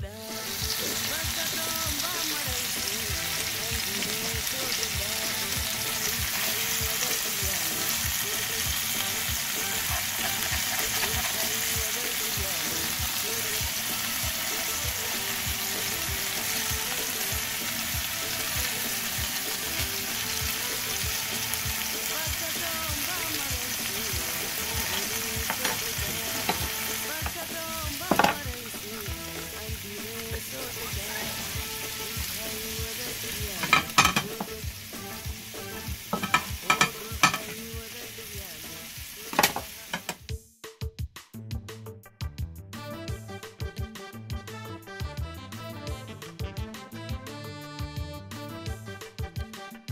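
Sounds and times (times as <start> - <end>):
chicken sizzling in a pan: 0.0 - 40.3.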